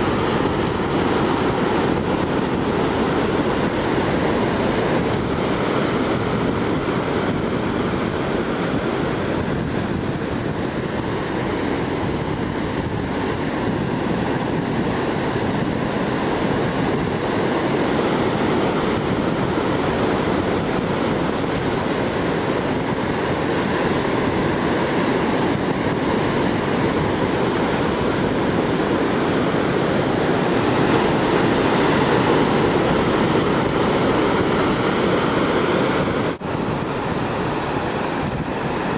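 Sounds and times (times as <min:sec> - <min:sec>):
surf breaking over rocks: 0:00.0 - 0:38.9.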